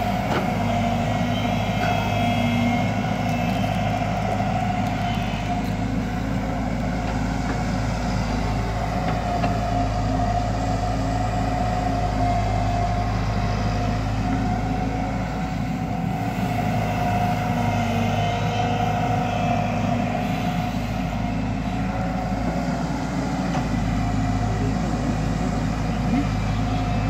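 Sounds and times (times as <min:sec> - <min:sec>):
excavator diesel engine: 0:00.0 - 0:27.0.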